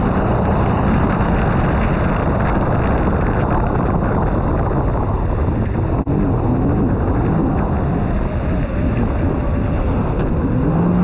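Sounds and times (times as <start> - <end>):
jet ski engine: 0.0 - 11.0
wind noise on microphone: 0.0 - 11.0.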